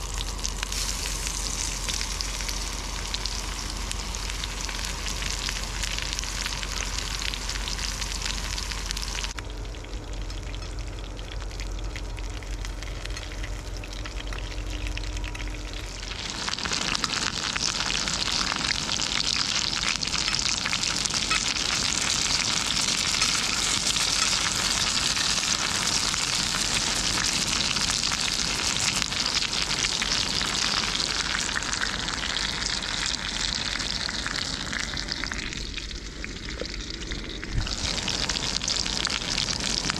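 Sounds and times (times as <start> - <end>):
food sizzling over campfire: 0.0 - 39.9.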